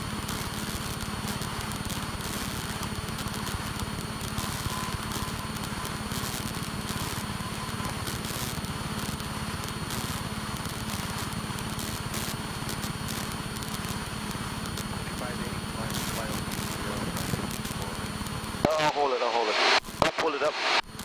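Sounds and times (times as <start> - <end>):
propeller plane engine drone: 0.0 - 20.8
faint crackles: 0.0 - 21.0.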